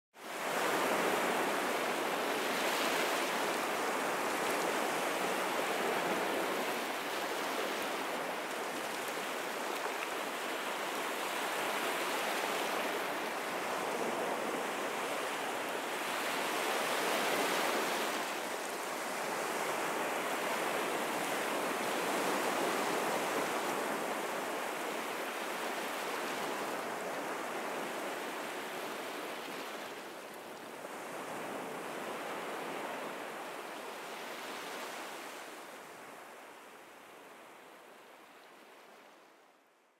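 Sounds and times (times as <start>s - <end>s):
waves breaking on a beach: 0.2s - 39.7s.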